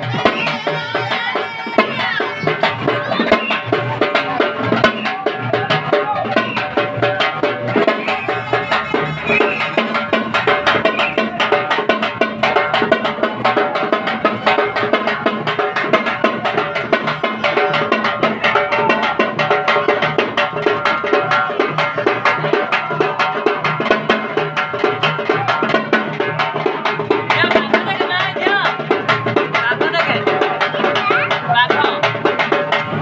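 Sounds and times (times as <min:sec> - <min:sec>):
barrel drum beaten fast: 0:00.0 - 0:33.0.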